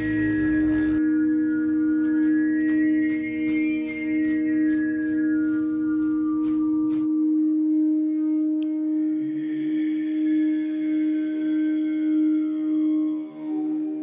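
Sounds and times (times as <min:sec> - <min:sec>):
singing bowl sustained tone: 0:00.0 - 0:14.0.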